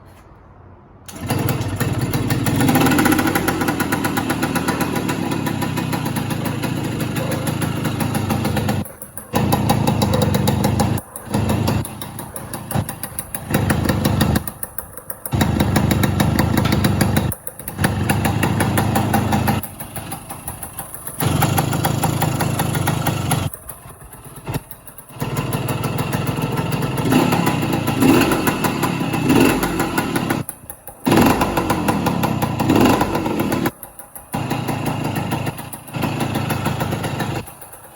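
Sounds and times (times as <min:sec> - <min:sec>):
engine idling and revving: 0:01.1 - 0:37.9.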